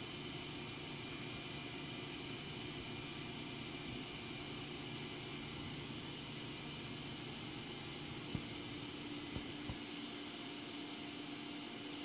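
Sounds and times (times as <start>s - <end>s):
boring mill humming: 0.0s - 12.0s.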